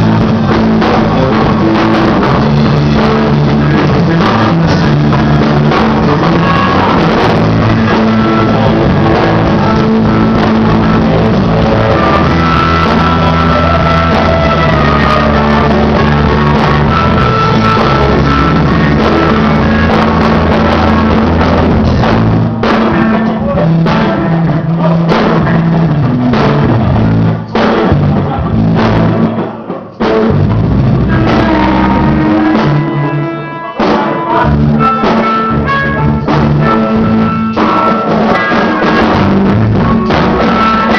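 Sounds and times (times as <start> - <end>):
drum kit beat: 0.0 - 40.9
rock band playing: 0.0 - 40.9.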